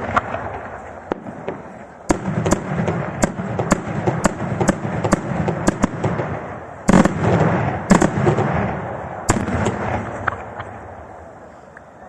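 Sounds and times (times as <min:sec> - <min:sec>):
fireworks bangs with rolling echo: 0:00.0 - 0:11.4
fireworks cracking: 0:00.0 - 0:11.5.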